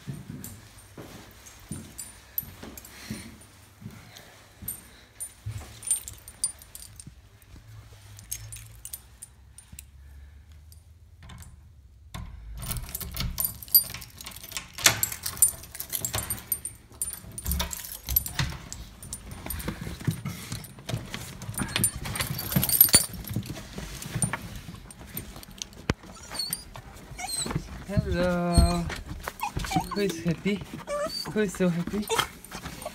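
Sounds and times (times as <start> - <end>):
keys jangling: 4.1 - 10.0, 12.3 - 32.9.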